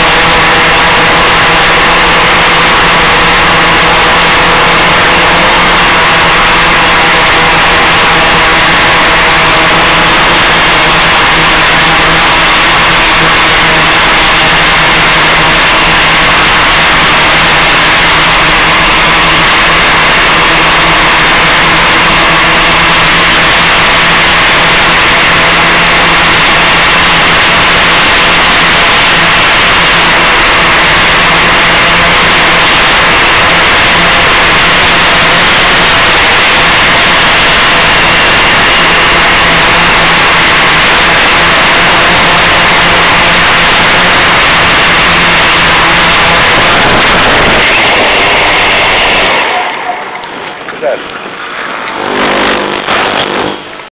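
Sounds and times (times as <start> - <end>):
constant low hum: 0.0 - 53.9
loud steady hiss: 0.0 - 53.9.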